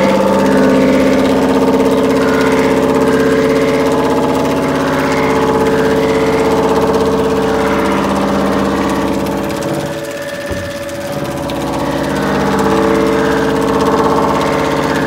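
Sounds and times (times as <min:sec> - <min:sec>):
resurfacing machine humming: 0:00.0 - 0:15.0.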